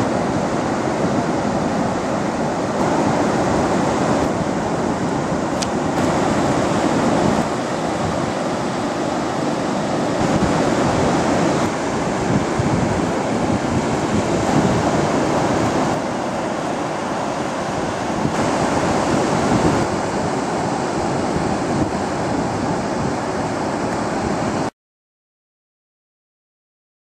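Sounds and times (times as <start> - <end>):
ocean surf on a beach: 0.0 - 24.7
wind on microphone: 0.0 - 24.7.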